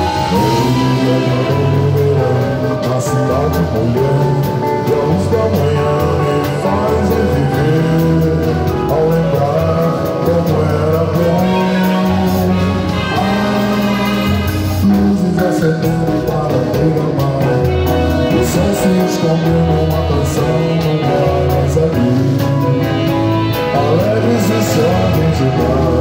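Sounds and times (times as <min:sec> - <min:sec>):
bass line: 0:00.0 - 0:26.0
drums: 0:00.0 - 0:26.0
person singing: 0:00.0 - 0:26.0.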